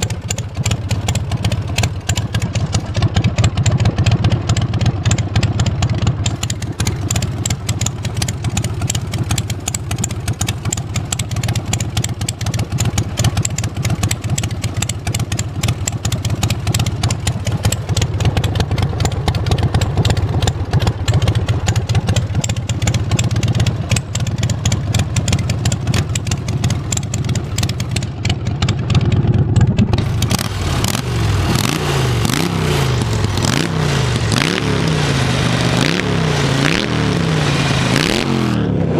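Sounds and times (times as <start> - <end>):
motorcycle engine running and revving: 0.0 - 38.9.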